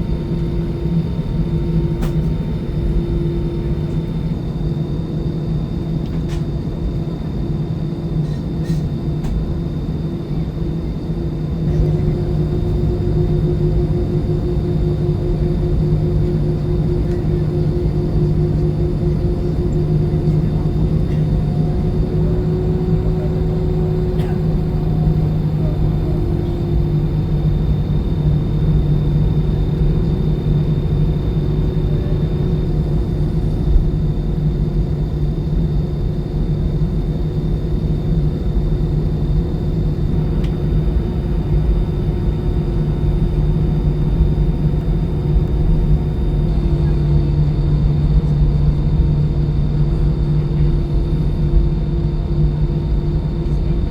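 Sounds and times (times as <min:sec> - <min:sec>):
airplane cabin engine drone: 0:00.0 - 0:53.9.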